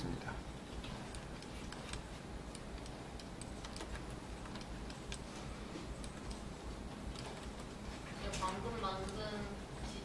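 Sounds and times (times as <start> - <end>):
low background hum: 0.0 - 10.0
computer mouse clicking: 0.8 - 9.6.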